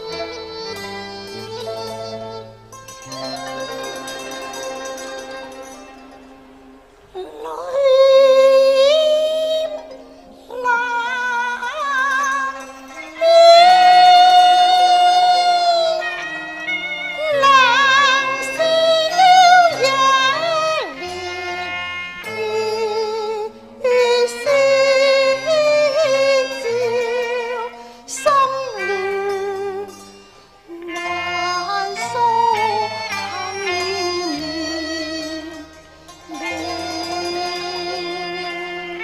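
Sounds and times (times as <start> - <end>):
high vibrato opera melody: 0.0 - 39.0
instrumental accompaniment: 0.0 - 39.0.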